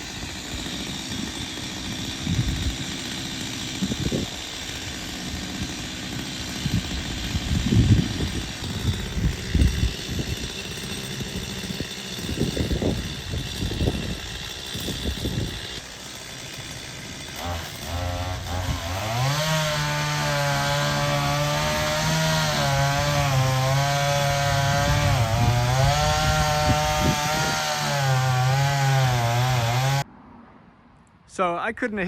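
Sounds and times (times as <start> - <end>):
chainsaw cutting wood: 0.0 - 30.1.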